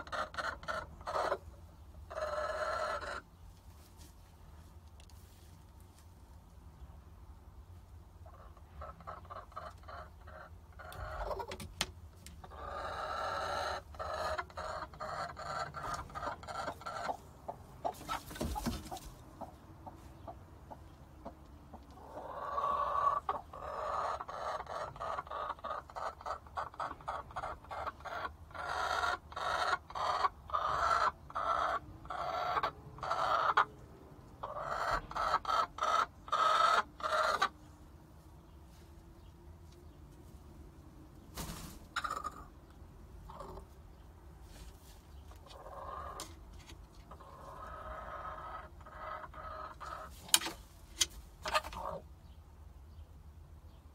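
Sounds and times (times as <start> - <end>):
hen clucking and cackling: 0.0 - 3.4, 8.0 - 44.2, 45.2 - 52.4.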